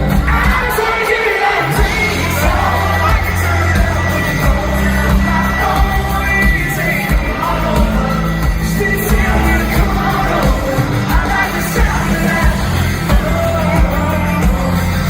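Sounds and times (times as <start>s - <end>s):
heavy bass: 0.0s - 0.8s, 1.6s - 15.0s
person singing lead vocal: 0.0s - 15.0s.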